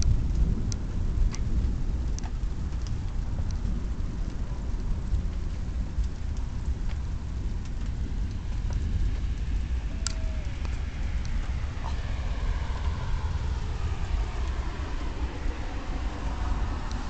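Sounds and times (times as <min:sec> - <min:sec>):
car approaching on wet street: 0:00.0 - 0:17.0
low rumble: 0:00.0 - 0:17.0
rain falling: 0:00.0 - 0:17.0.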